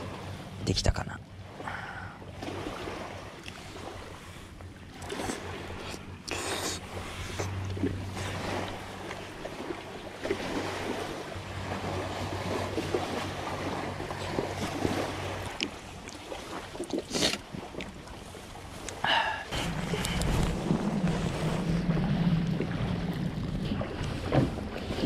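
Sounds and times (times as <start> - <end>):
low steady hum: 0.0 - 25.0
river water flowing and lapping: 0.0 - 25.0.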